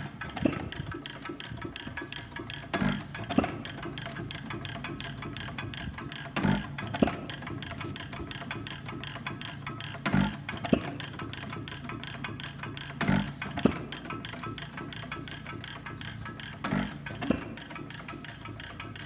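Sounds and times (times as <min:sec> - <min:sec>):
engine ticking while coasting: 0:00.0 - 0:19.0.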